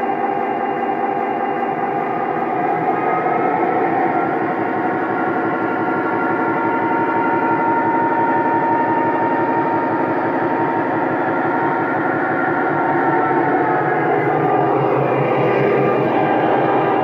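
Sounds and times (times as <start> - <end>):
model locomotive diesel engine sound: 0.0 - 17.0.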